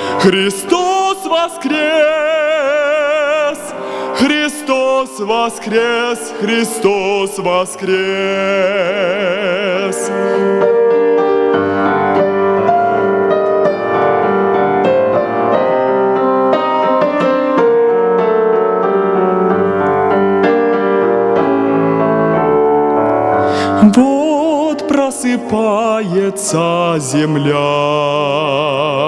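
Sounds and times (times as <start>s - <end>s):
piano playing hymn chords: 0.0s - 29.0s.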